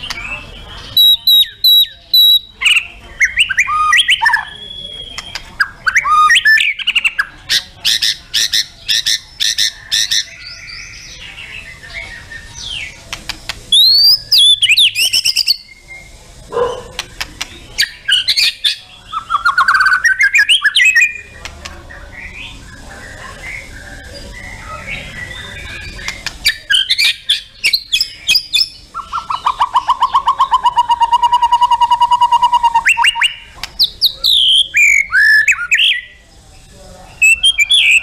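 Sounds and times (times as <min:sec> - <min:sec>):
songbird singing: 0:00.0 - 0:38.0.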